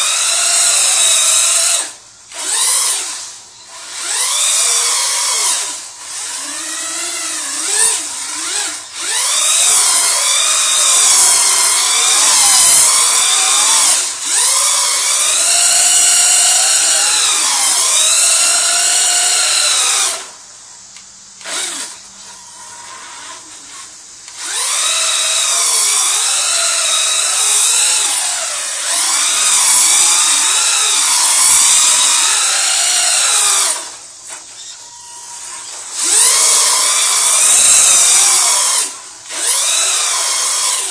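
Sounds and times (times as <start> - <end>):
electric motor whining: 0.0 - 20.4, 21.4 - 40.9.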